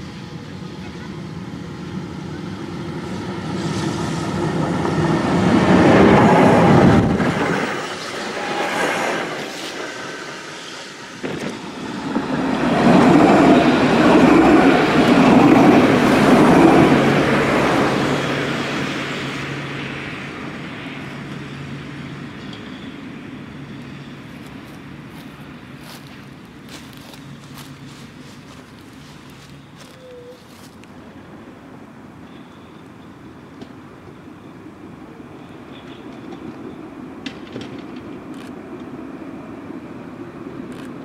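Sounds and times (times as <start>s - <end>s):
electric tram passing: 0.0s - 41.0s
low tram hum: 0.0s - 41.0s.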